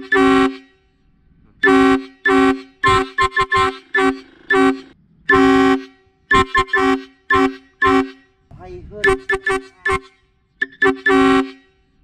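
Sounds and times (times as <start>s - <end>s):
air horn honks: 0.0s - 1.0s, 1.6s - 12.0s.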